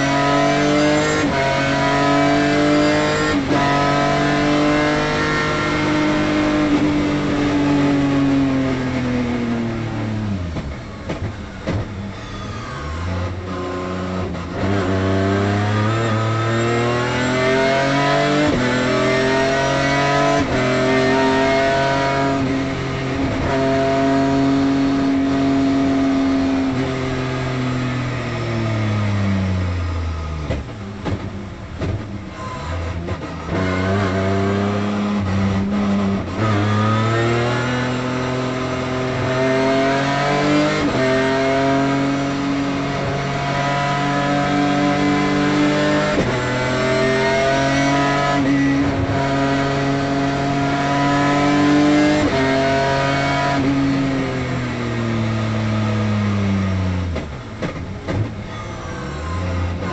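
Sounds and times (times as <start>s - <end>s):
race car engine revving: 0.0s - 10.7s, 12.5s - 59.9s.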